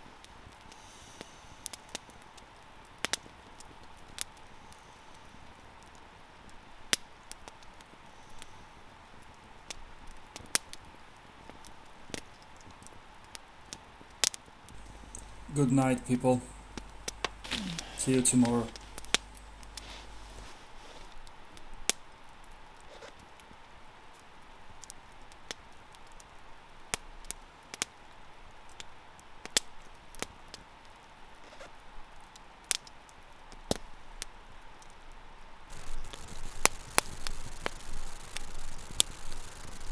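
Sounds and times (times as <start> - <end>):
low hiss: 0.0 - 32.2, 33.4 - 39.9
fire popping: 0.0 - 34.0, 35.7 - 39.9
campfire crackling: 0.0 - 39.9.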